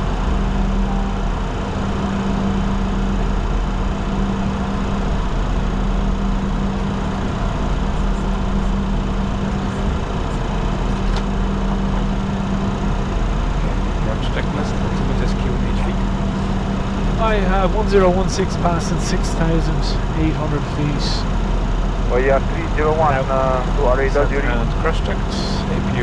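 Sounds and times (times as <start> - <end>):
cockpit air rush and hum: 0.0 - 26.0.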